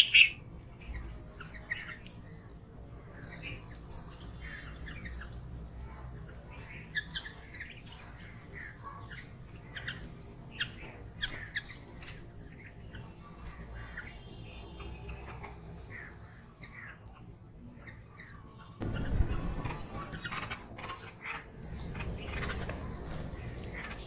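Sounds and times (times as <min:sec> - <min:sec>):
birds chirping: 0:00.0 - 0:24.0
low steady background rumble: 0:00.0 - 0:24.0.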